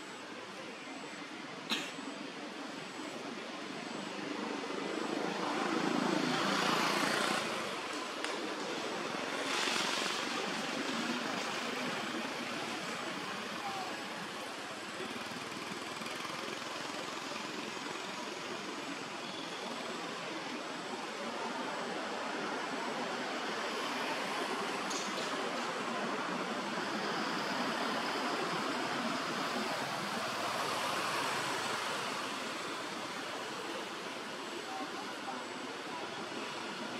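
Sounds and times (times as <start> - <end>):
outdoor background noise: 0.0 - 36.9.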